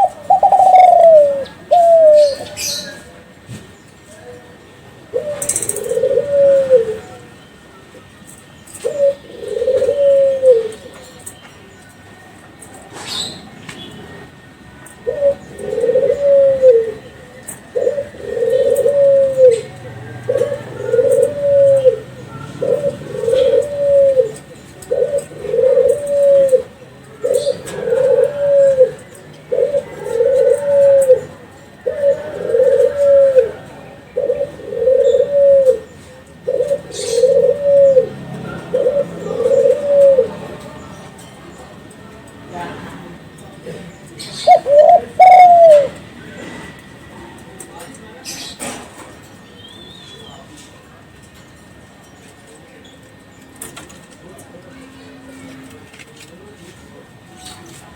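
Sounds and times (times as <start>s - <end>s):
dove cooing: 0.0s - 11.3s, 12.7s - 49.1s.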